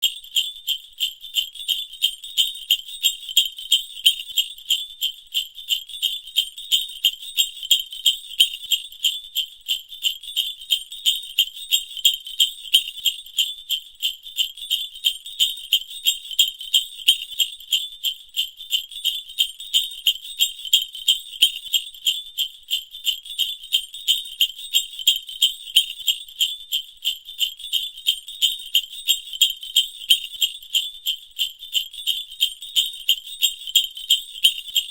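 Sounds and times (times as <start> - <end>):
sleigh bells jingling: 0.0 - 34.9.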